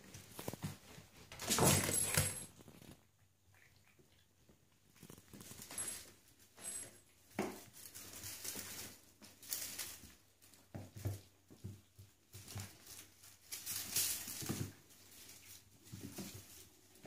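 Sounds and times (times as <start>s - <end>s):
kitten paws pattering on floor: 0.0s - 3.1s, 4.0s - 17.0s.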